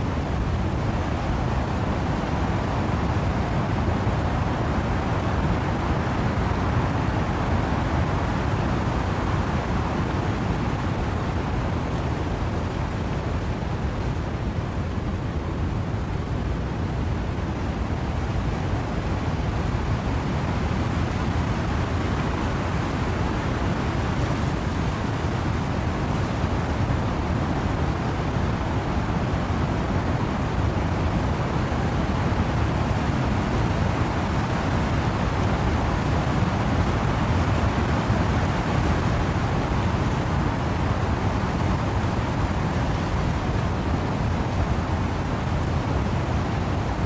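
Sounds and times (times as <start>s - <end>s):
windy rain in trees: 0.0s - 47.0s.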